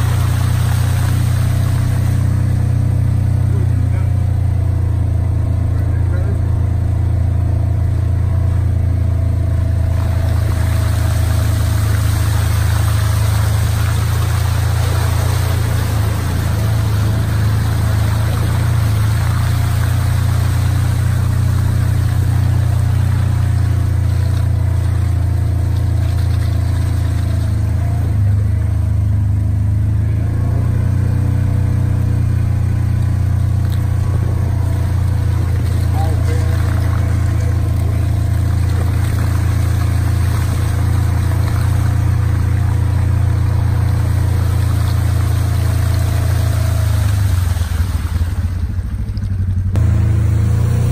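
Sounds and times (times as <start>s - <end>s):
tyres hissing through water: 0.0s - 5.6s, 7.9s - 48.5s
vehicle engine droning: 0.0s - 50.9s.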